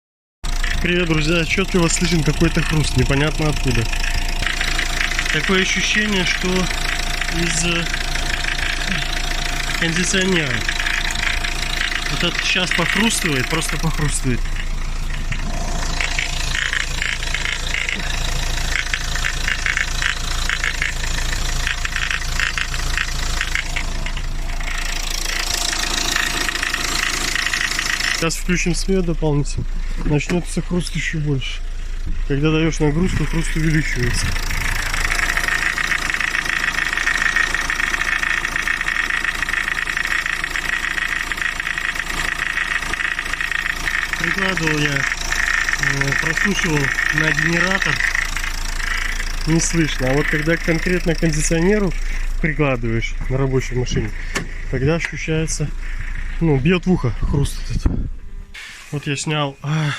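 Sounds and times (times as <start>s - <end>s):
car engine idling: 0.4s - 59.9s
rapid crunching from engine: 0.4s - 59.9s.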